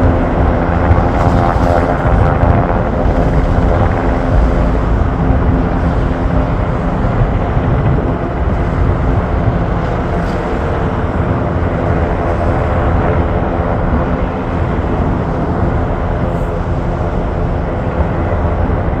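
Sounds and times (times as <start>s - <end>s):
helicopter rotor and engine: 0.0s - 19.0s.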